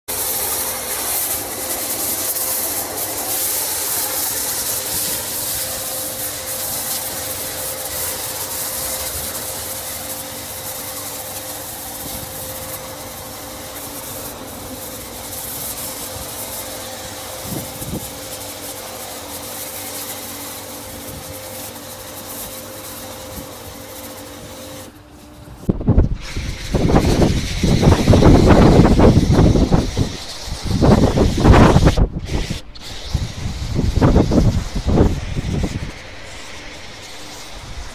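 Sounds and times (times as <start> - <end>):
foam lance spraying hiss: 0.1 - 37.9
steady hum: 0.1 - 37.9.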